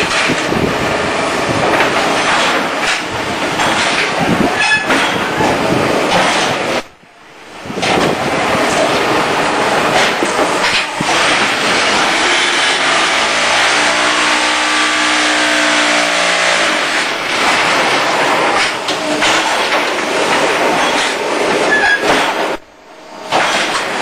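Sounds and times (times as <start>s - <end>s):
machine mechanical clatter: 0.0s - 6.9s, 7.8s - 14.2s, 15.6s - 22.6s, 23.2s - 24.0s
droning hum: 0.0s - 21.7s, 22.5s - 24.0s.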